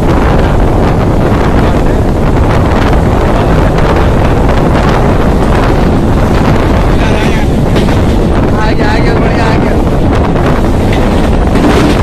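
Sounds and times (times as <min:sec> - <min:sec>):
train running noise: 0:00.0 - 0:12.0
wind buffeting microphone: 0:00.0 - 0:12.0.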